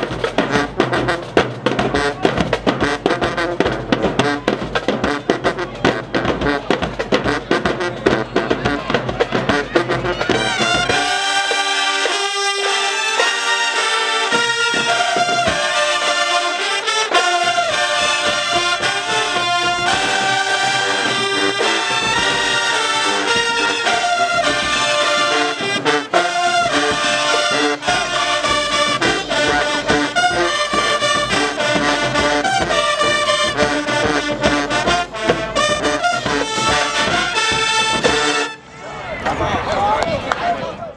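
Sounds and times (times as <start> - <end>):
marching band brass chords: 0.0 - 40.6.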